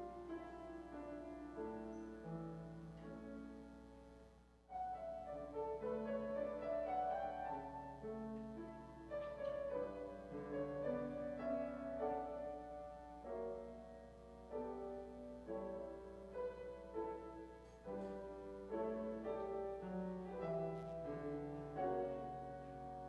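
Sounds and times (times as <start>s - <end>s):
slow keyboard music: 0.0s - 23.0s.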